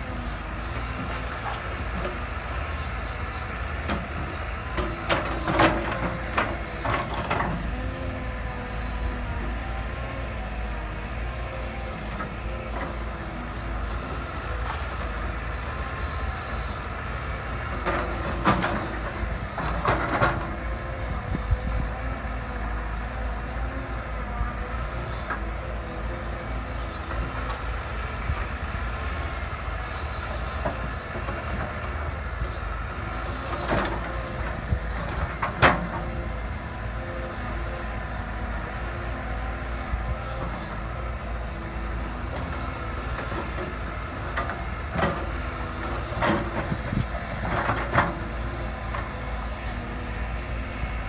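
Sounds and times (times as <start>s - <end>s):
heavy diesel machinery running: 0.0s - 51.0s.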